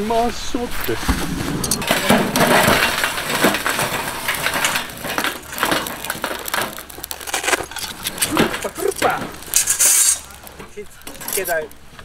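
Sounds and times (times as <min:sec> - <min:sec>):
charcoal clinking against steel: 0:01.6 - 0:11.9.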